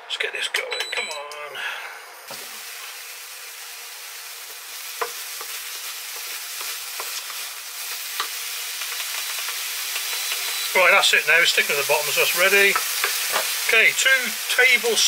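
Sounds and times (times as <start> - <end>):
paste sizzling in a frying pan: 2.1 - 15.0.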